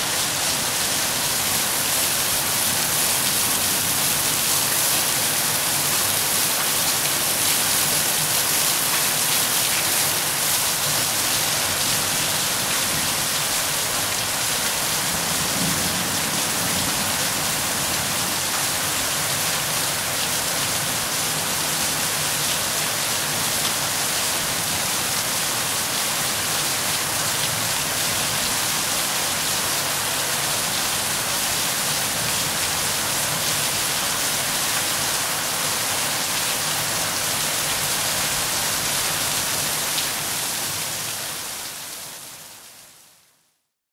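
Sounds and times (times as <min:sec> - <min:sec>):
rain falling steadily: 0:00.0 - 0:43.8.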